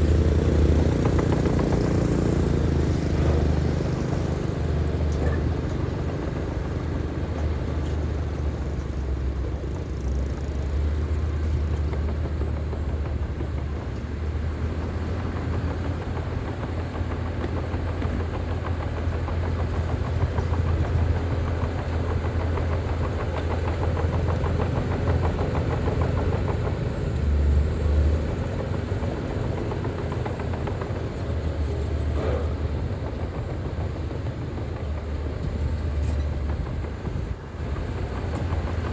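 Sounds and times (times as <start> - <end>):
diesel engine deep drone: 0.0 - 38.9.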